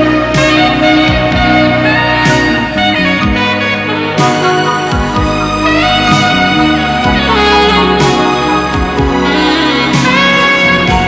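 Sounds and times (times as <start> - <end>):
orchestral music with brass: 0.0 - 11.0.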